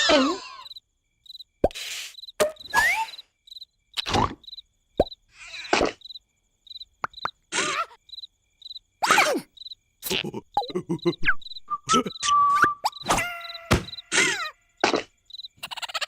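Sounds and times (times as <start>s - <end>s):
cricket-like chirp: 0.0s - 16.0s.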